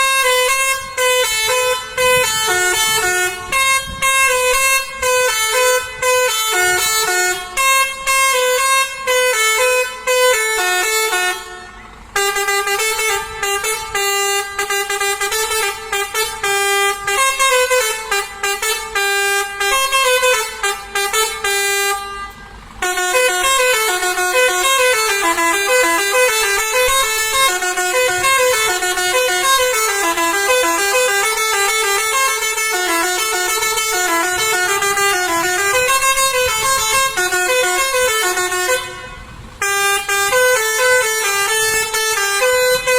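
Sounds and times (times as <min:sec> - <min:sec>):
multi-note air horns tooting: 0:00.0 - 0:42.9.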